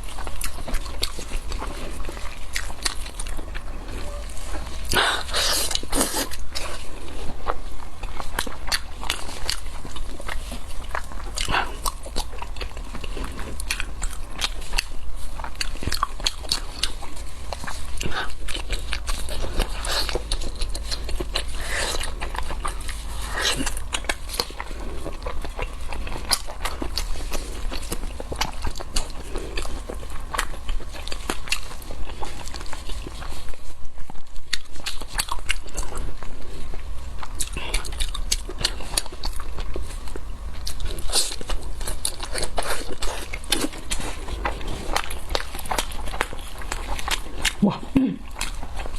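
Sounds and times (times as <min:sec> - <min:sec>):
close biting and chewing: 0:00.0 - 0:33.7, 0:34.4 - 0:48.9
steady low hum: 0:00.0 - 0:48.9.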